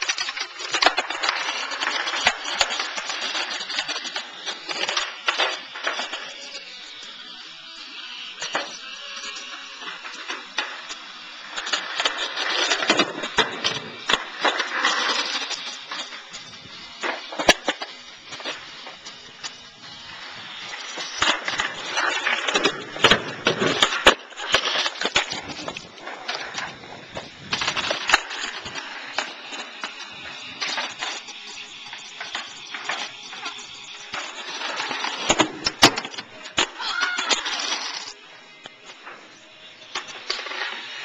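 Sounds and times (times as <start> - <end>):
skateboard clacking on concrete: 0.0 - 39.3, 39.9 - 41.0
skateboard wheels rolling on concrete: 0.0 - 41.0.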